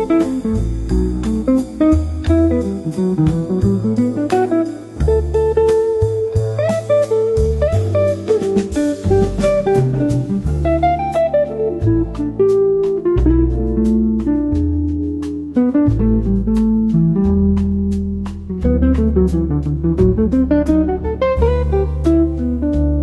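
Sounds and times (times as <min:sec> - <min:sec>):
bass line: 0:00.0 - 0:23.0
jazzy plucked guitar melody: 0:00.0 - 0:23.0.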